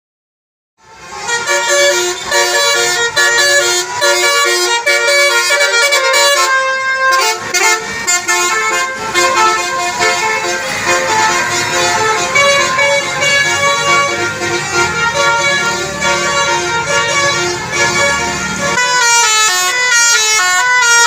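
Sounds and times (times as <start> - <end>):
musical bus horn tune: 0.8 - 21.0.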